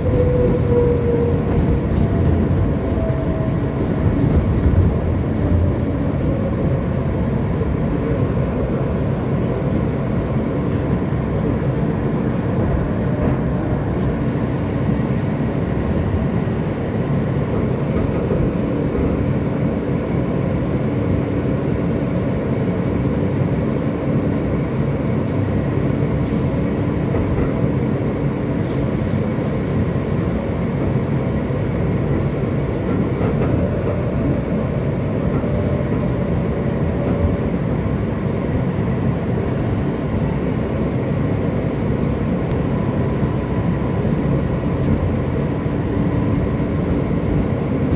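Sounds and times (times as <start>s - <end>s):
subway train rumble: 0.0s - 47.9s.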